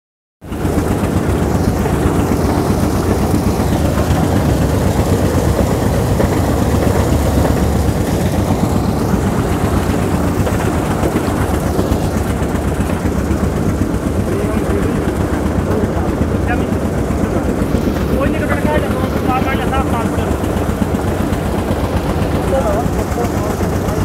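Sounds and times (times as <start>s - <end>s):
washing machine mechanical rumble: 0.4s - 24.0s.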